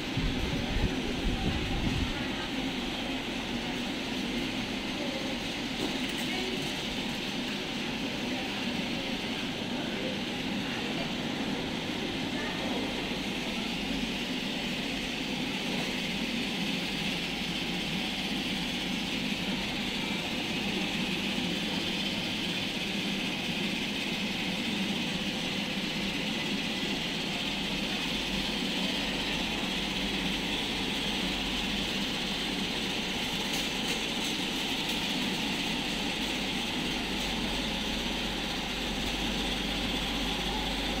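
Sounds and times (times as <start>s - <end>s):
warehouse background hum: 0.0s - 41.0s.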